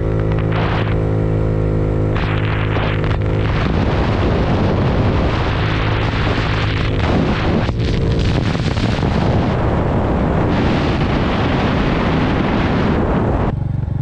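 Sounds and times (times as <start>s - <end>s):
scooter engine drone: 0.0s - 14.0s
wind buffeting microphone: 2.1s - 14.0s.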